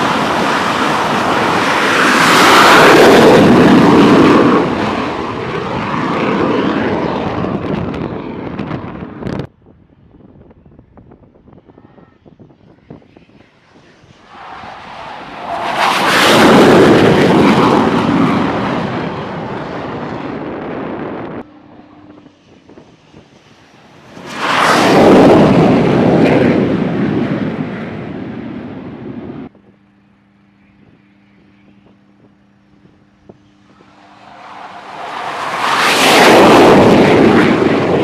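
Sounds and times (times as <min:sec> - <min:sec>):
jet taking off roar: 0:00.0 - 0:09.5, 0:11.3 - 0:29.5, 0:33.6 - 0:38.0.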